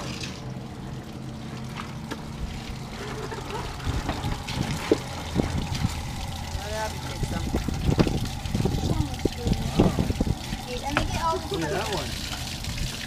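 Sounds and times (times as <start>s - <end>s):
steady low hum: 0.0s - 13.0s
water running from a spigot: 0.0s - 13.0s.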